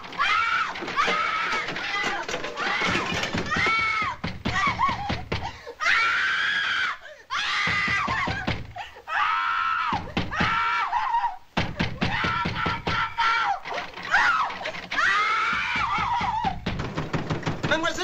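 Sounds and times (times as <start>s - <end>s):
woman screaming in terror: 0.0s - 16.7s.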